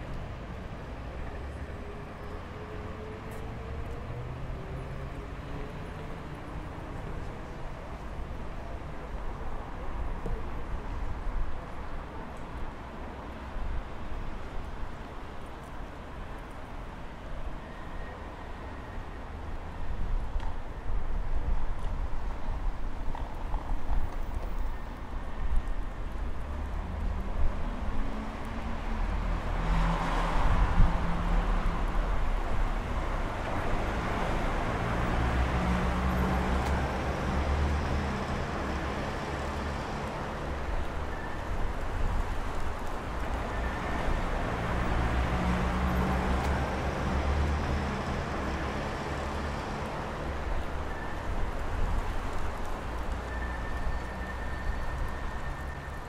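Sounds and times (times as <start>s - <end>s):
cars and bus driving past: 0.0s - 56.0s.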